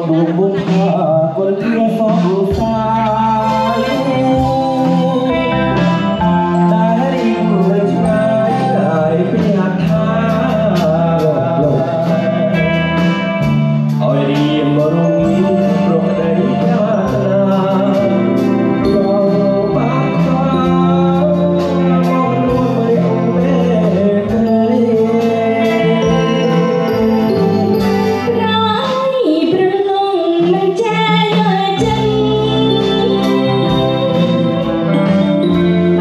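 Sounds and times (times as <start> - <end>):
man singing through microphone: 0.0 - 27.9, 30.4 - 36.0
live band music: 0.0 - 36.0.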